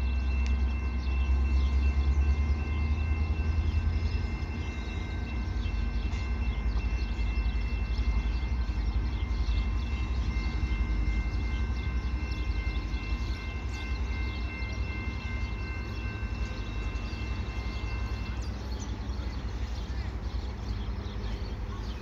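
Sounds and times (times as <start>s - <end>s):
steady high ringing tone: 0.0s - 22.0s
train rumbling: 0.0s - 22.0s.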